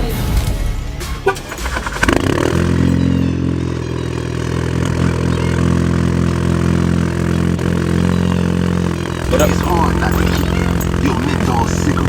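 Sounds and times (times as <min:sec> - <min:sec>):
engine idling: 0:00.8 - 0:12.0.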